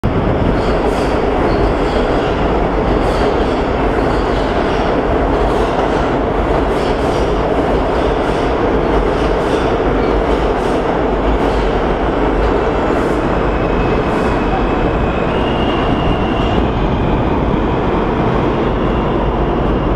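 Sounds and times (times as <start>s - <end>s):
subway train rumble: 0.0s - 19.9s.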